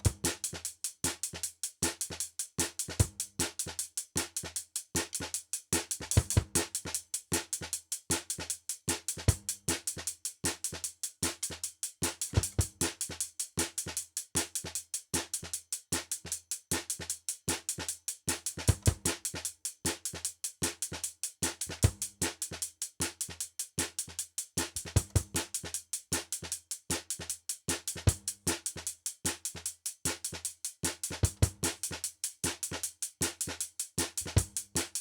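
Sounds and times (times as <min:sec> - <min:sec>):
music with fast drum beat: 0:00.0 - 0:35.0.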